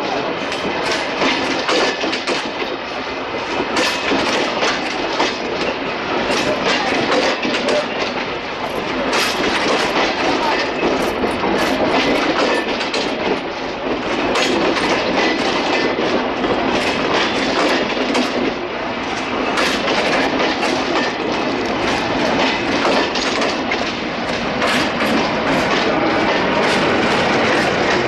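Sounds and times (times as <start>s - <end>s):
train rumble and hiss: 0.0s - 28.0s
train wheels clacking over rail joints: 0.0s - 28.0s.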